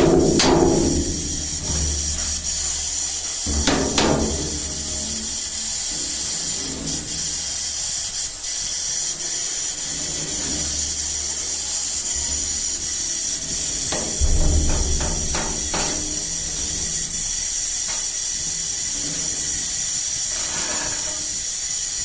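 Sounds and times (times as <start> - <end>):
low electrical hum: 0.0 - 21.7
welding arc crackling: 0.0 - 22.0.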